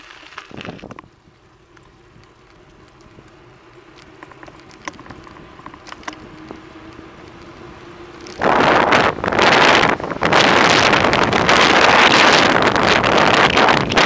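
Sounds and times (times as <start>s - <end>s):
bicycle tyres rumbling on asphalt: 0.0s - 14.0s
faint steady hum: 0.0s - 14.0s
sharp ticks and rattles: 0.0s - 14.0s
wind: 0.0s - 14.0s.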